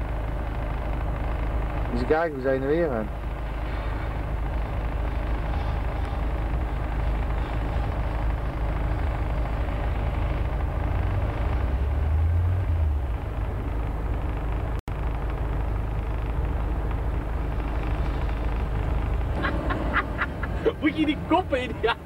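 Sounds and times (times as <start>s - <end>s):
road noise: 0.0s - 22.0s
truck engine drone: 0.0s - 22.0s.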